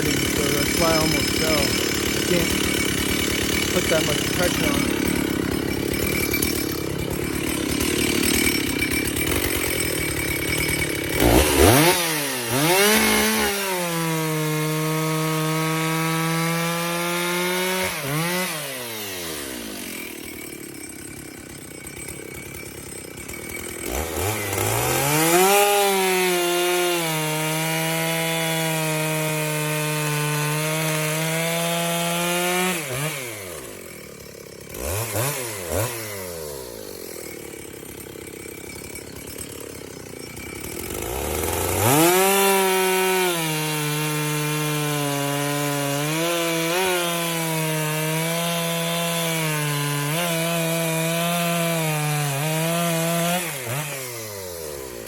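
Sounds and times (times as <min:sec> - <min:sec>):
chainsaw revving cutting wood: 0:00.0 - 0:55.0.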